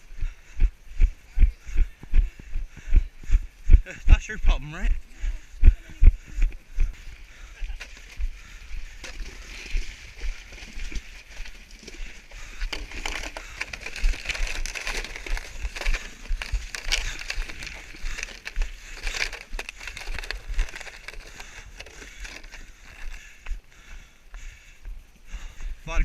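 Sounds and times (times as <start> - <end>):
footsteps on rough ground: 0.0 - 25.9.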